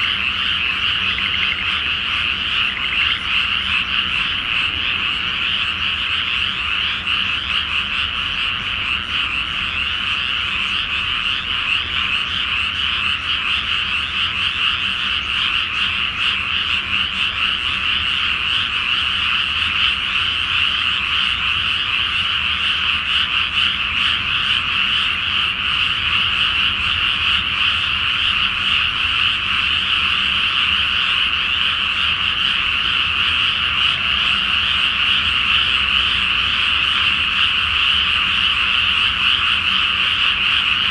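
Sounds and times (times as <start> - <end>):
chorus of frogs croaking: 0.0 - 40.9.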